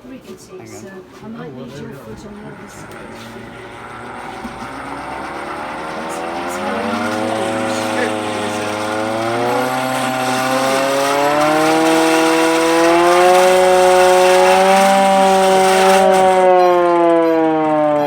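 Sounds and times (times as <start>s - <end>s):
steady mechanical drone: 1.8s - 18.0s
siren wailing: 2.2s - 18.0s.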